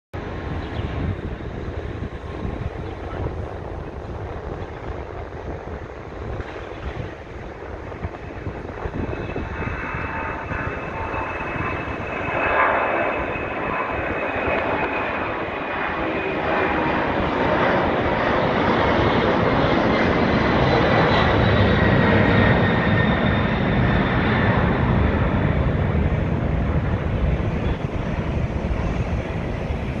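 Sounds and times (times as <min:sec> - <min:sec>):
deep rumble: 0:00.2 - 0:30.0
jet engines whine and roar: 0:00.2 - 0:30.0.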